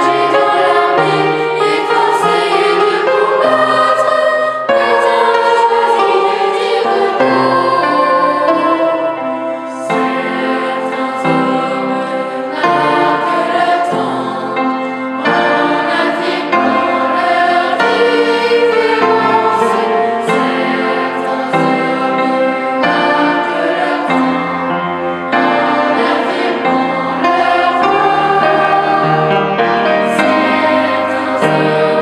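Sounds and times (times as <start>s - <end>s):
children's choir singing a hymn: 0.0s - 32.0s.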